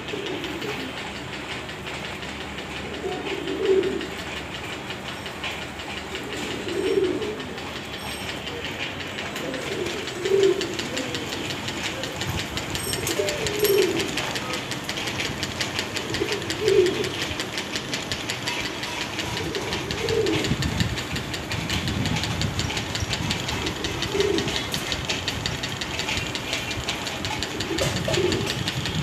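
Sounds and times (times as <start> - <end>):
fast mechanical ticking: 0.0 - 29.0
pigeons cooing: 0.0 - 29.0.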